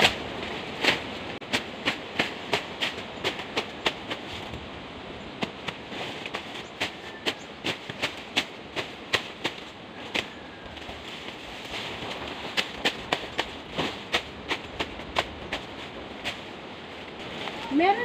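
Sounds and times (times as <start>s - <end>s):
leaves rustling: 0.0s - 18.0s.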